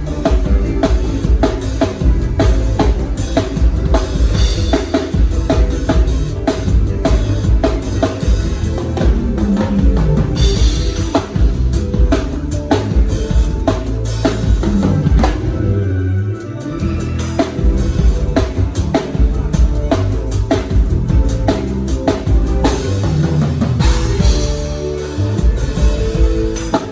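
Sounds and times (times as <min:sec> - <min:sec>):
drum kit playing a groove: 0:00.0 - 0:15.8, 0:16.4 - 0:26.9
sustained low bass: 0:00.0 - 0:26.9.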